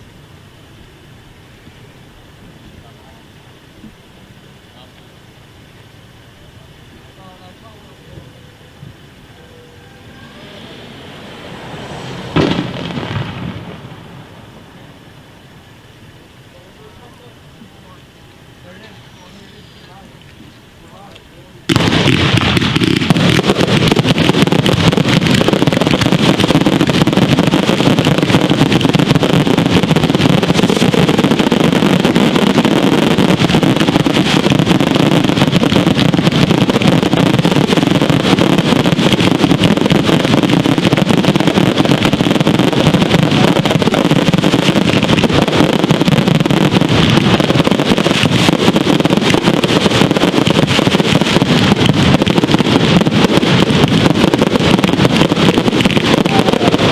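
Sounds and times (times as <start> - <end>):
fireworks crackling roar: 0.0 - 56.9.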